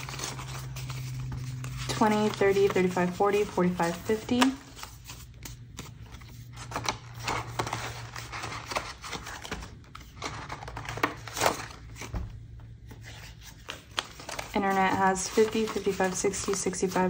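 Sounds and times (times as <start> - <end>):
paper rustling and crinkling: 0.0 - 12.2, 12.8 - 17.0.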